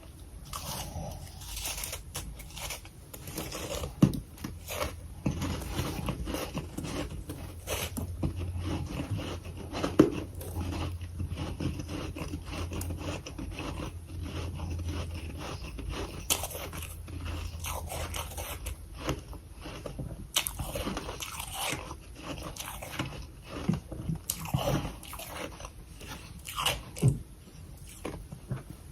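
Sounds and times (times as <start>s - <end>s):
frost crunching in mouth: 0.4s - 27.0s.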